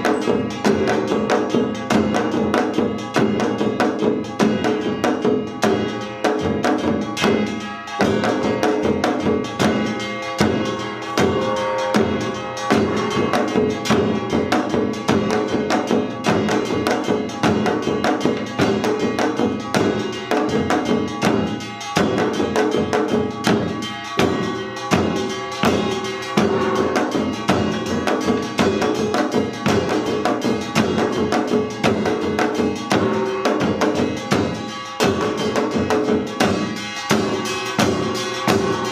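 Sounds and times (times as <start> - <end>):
fast drum strokes: 0.0 - 38.9
ringing clang of gongs: 0.0 - 38.9.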